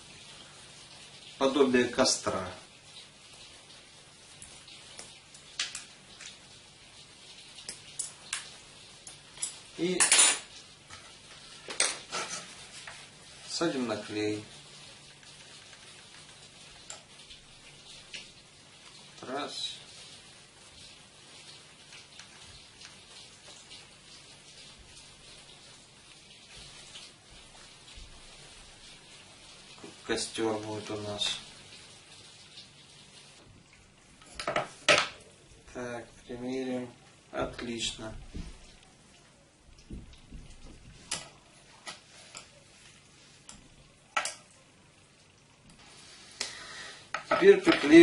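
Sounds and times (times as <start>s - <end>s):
faint crackly hiss: 0.0s - 48.0s.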